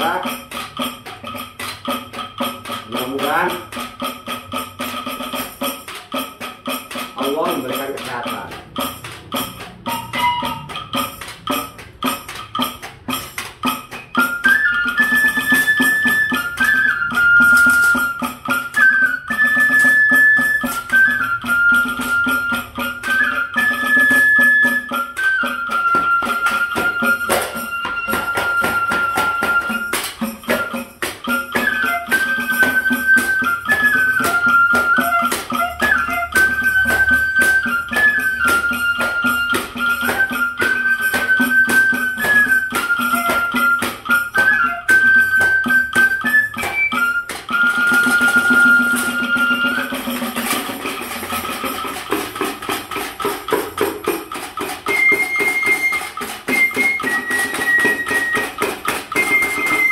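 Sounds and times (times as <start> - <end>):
bamboo flute melody: 0.0 - 59.9
rapid clicking percussion: 0.0 - 59.9.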